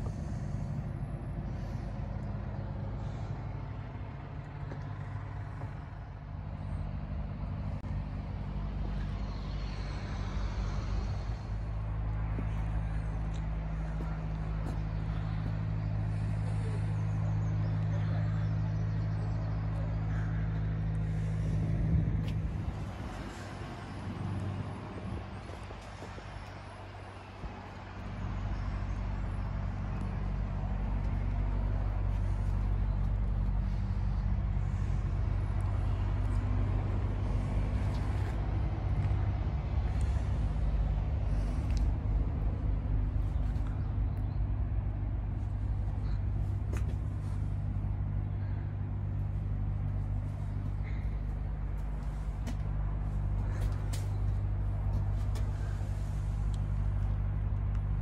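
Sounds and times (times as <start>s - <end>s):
lorry diesel engine idling: 0.0s - 58.0s.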